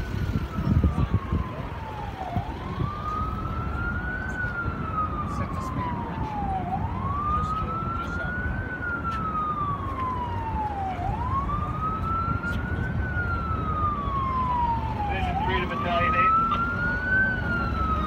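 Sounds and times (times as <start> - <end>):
emergency siren wailing: 0.0 - 18.0
low city rumble: 0.0 - 18.0.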